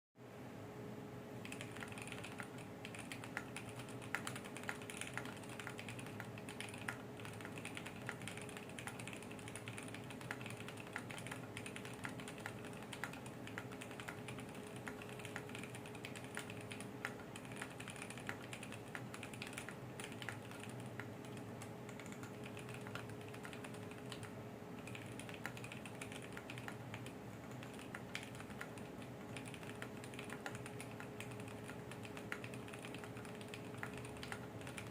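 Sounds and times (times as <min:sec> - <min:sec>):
faint steady hum: 0:00.2 - 0:34.9
mechanical keyboard typing: 0:01.4 - 0:34.9.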